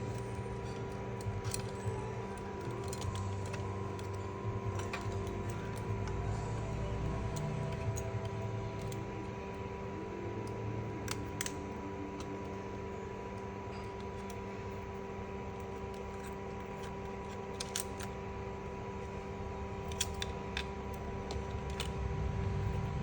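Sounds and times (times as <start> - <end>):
steady hum of fixed tones: 0.0 - 23.0.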